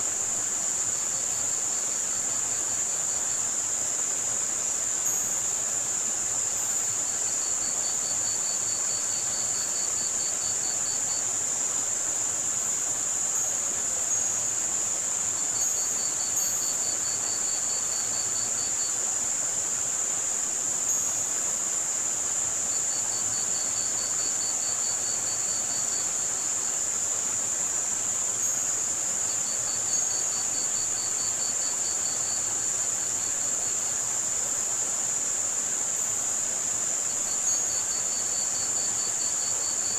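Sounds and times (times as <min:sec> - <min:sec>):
crickets chirping: 0:00.0 - 0:39.9
high-pitched white noise hiss: 0:00.0 - 0:39.9.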